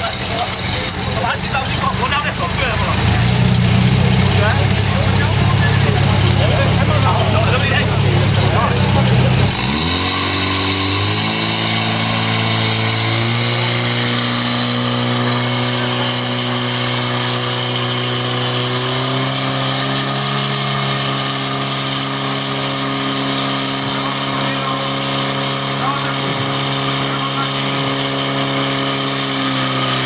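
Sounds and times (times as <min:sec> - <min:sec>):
pump engine running at high revs: 0:00.0 - 0:30.0.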